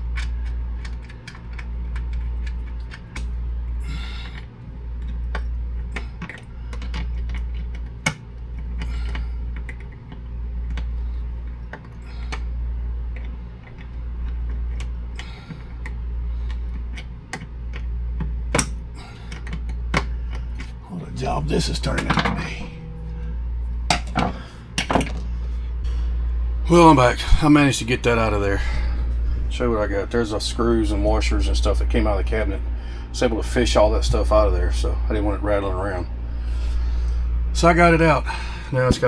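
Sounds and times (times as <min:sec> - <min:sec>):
pulsing low hum: 0:00.0 - 0:39.0.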